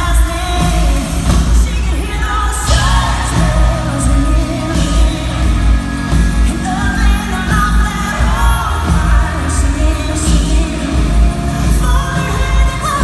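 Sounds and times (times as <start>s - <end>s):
heavy drum and bass beat: 0.0s - 13.0s
live country-rock band: 0.0s - 13.0s
woman singing: 0.0s - 13.0s.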